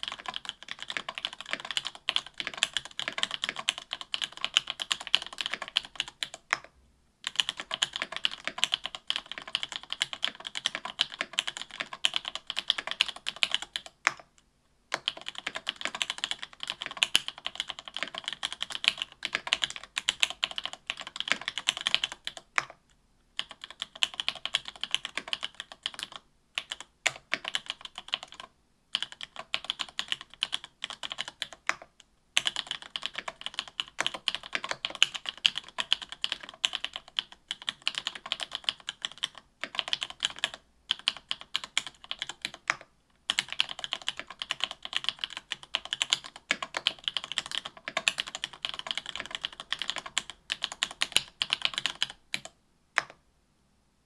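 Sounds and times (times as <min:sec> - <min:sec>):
mechanical keyboard typing clacks: 0:00.0 - 0:06.7, 0:07.3 - 0:14.2, 0:14.9 - 0:22.8, 0:23.4 - 0:53.2.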